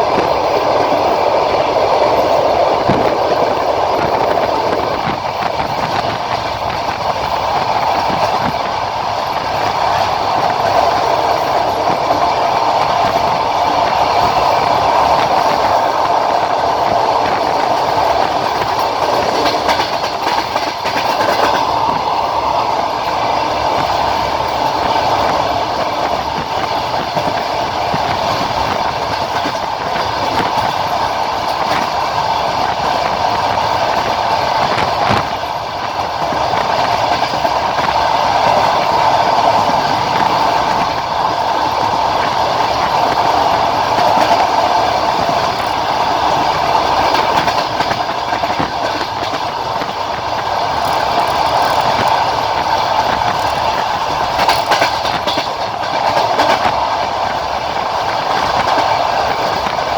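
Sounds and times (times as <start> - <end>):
clickety-clack of rail joints: 0.0 - 59.9
train wheels rumbling on rails: 0.0 - 59.9.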